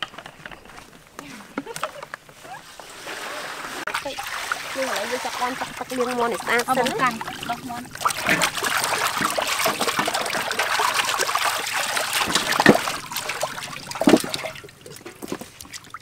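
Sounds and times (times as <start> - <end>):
water splashing in metal basin: 2.9 - 16.0.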